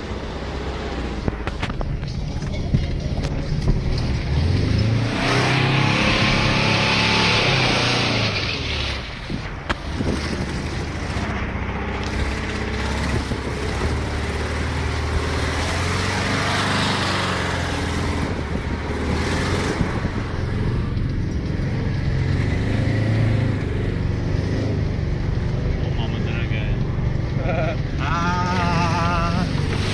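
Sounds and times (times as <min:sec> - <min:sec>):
car engine running under load: 0:00.0 - 0:29.9.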